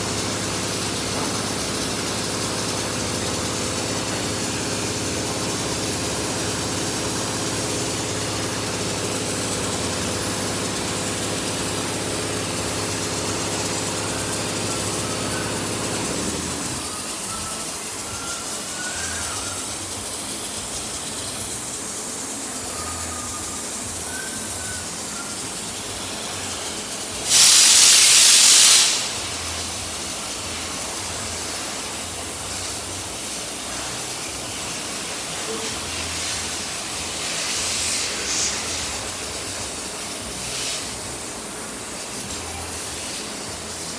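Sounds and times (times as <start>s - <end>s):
compressor humming: 0.0s - 43.9s
spray gun air blast: 0.0s - 43.9s
steady hiss of air: 0.0s - 43.9s.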